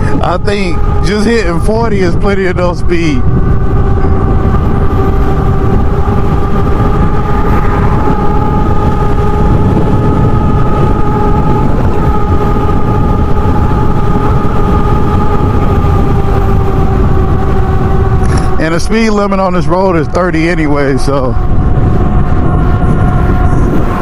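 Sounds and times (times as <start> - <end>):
electric motor whine: 0.0 - 24.0
wind rushing over microphone: 0.0 - 24.0.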